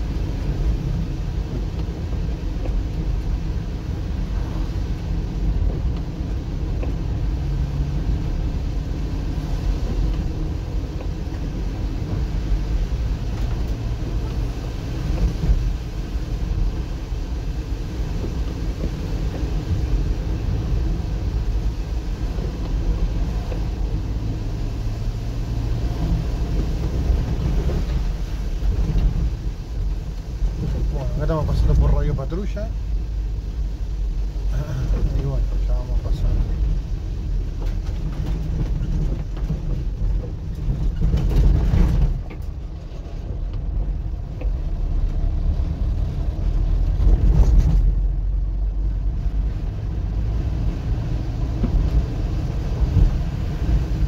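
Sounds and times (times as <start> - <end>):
car engine rumble: 0.0 - 54.0
tyres on wet road: 0.0 - 54.0.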